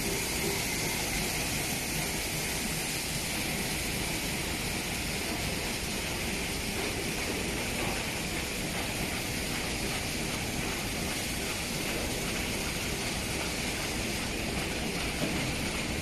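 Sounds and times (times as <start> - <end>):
die-cutting machines running: 0.0 - 16.0.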